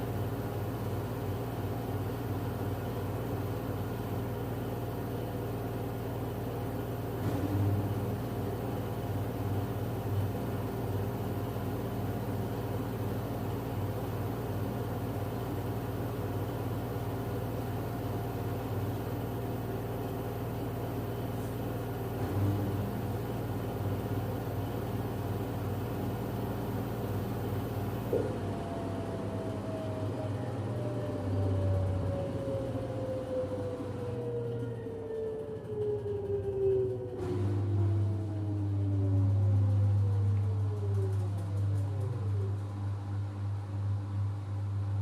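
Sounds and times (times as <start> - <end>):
washing machine spinning: 0.0 - 45.0.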